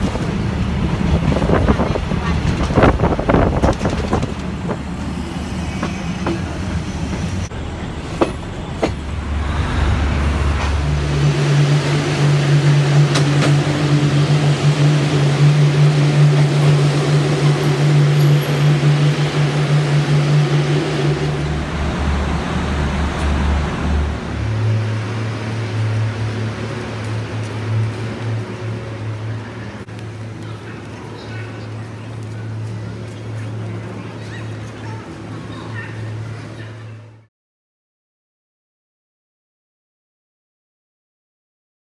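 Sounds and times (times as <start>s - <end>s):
low drone of standing train: 0.0s - 37.3s
train running on rails: 0.0s - 37.3s.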